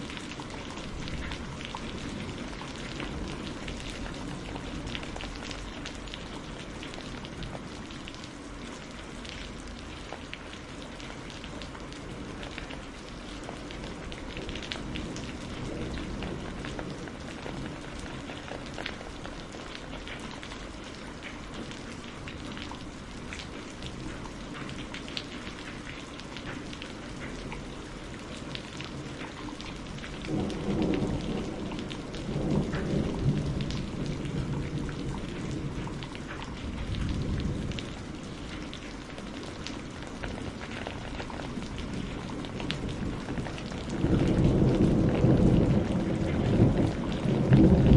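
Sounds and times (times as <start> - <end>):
low rumble of thunder: 0.0 - 47.9
rain drops striking a surface: 0.0 - 47.9.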